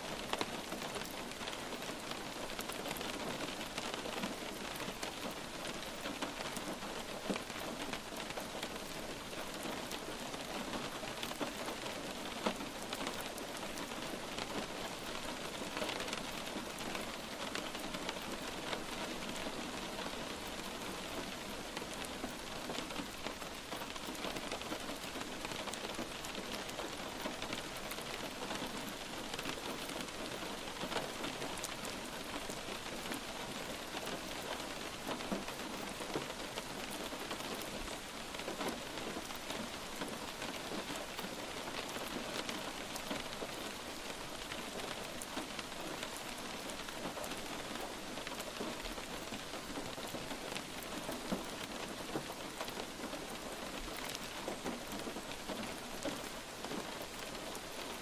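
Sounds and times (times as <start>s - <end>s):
light rain pattering on a surface: 0.0s - 58.0s.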